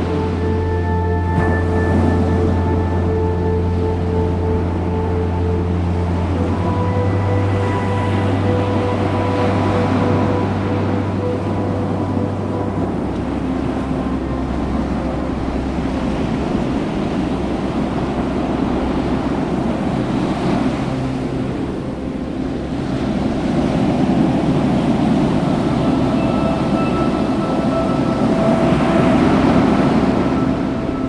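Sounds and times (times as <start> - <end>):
faint held tones: 0.0 - 31.0
ocean surf: 0.0 - 31.0
wind on microphone: 0.0 - 31.0.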